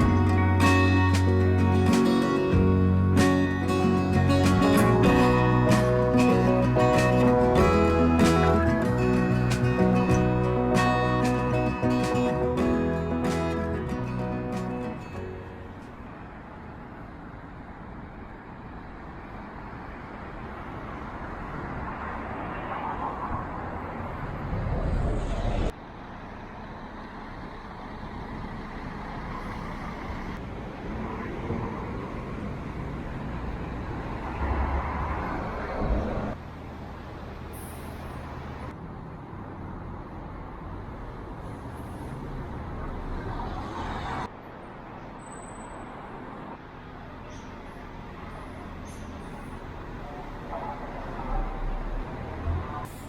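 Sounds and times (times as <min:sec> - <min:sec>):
vehicles passing: 0:00.0 - 0:53.0.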